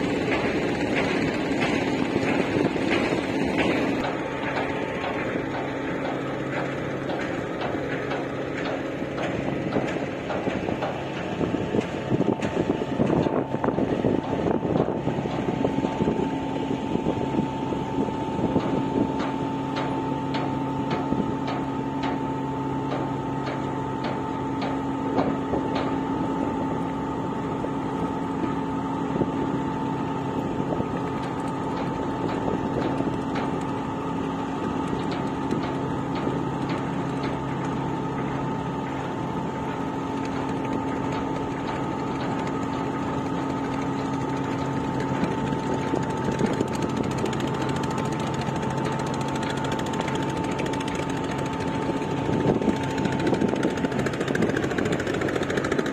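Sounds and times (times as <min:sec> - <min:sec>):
engine drone: 0:00.0 - 0:55.9.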